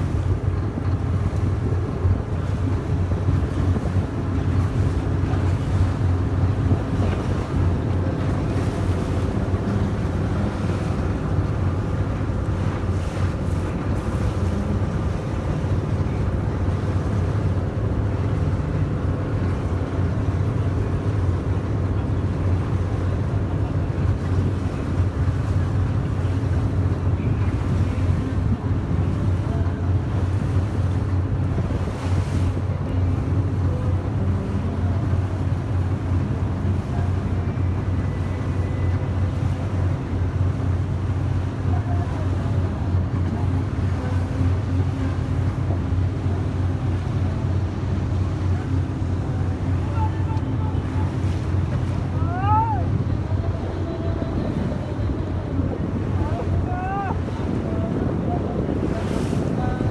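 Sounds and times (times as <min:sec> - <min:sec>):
boat engine humming: 0:00.0 - 0:59.9
water and wind rushing: 0:00.0 - 0:59.9.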